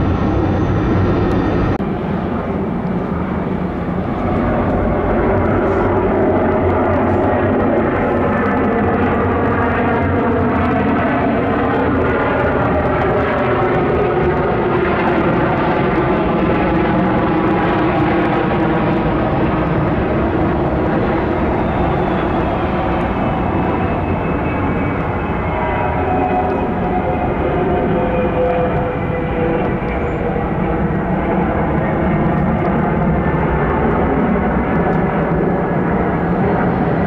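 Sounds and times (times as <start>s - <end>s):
jet engines at take-off thrust: 0.0s - 37.0s.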